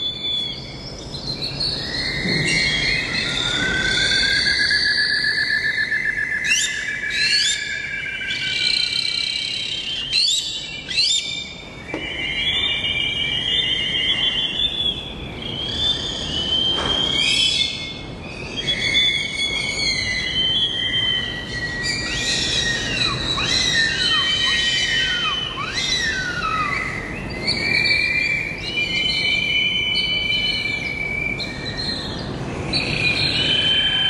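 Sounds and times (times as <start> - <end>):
birds chirping and trilling: 0.0 - 34.0.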